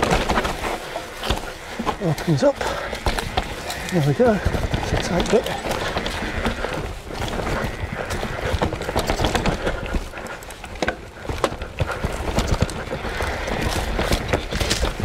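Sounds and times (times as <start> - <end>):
bike rattling over bumps: 0.0 - 15.0
bike tyres rolling over dirt: 0.0 - 15.0.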